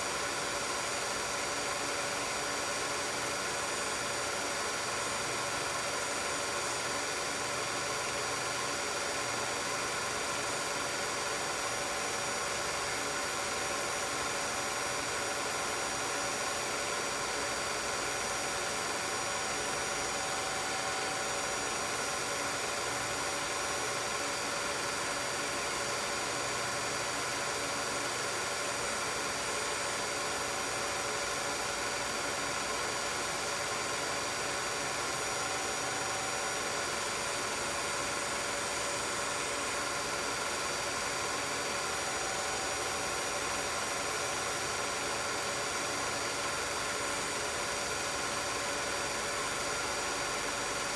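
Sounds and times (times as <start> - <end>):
film projector humming and whirring: 0.0 - 50.9.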